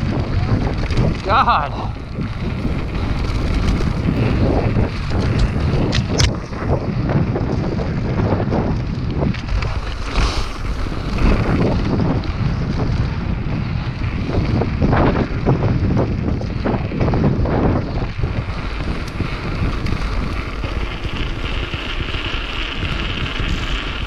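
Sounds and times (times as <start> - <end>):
bike knocks and rattles: 0.0 - 24.0
tyres rumbling on dirt: 0.0 - 24.0
wind buffeting microphone: 0.0 - 24.0.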